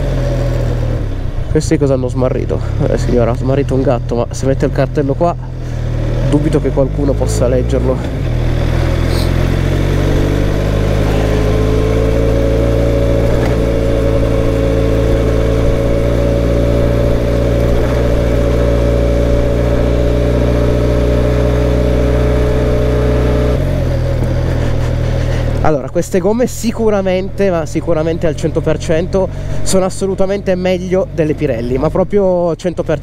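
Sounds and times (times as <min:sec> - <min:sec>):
motorcycle engine running: 0:00.0 - 0:32.3.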